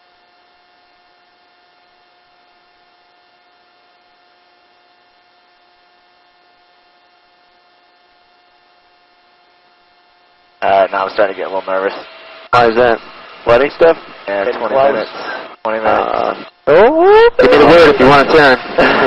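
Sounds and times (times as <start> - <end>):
faint electrical hum: 0.0 - 19.0
thin high whine: 0.0 - 19.0.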